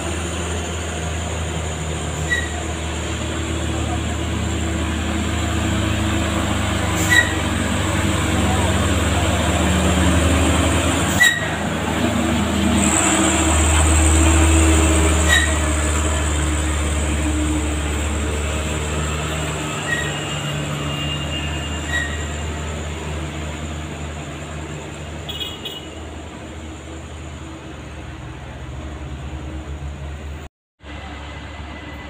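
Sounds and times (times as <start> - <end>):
diesel truck engine rumble: 0.0 - 32.0.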